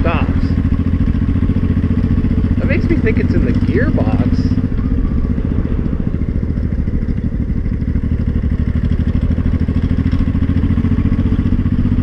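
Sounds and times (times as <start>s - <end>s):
motorcycle engine rattling: 0.0s - 12.0s.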